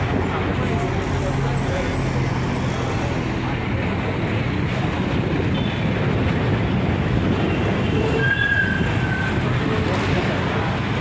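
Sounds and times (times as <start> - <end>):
low engine rumble: 0.0 - 11.0
road traffic noise: 0.0 - 11.0.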